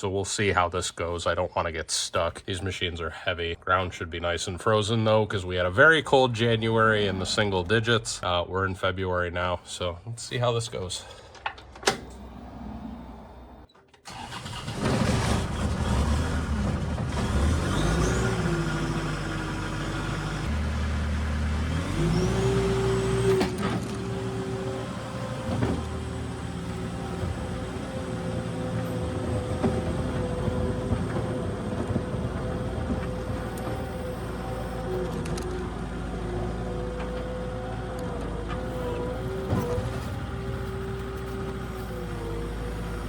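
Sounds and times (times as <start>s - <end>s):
diesel engine running: 4.2s - 8.3s, 10.4s - 43.0s.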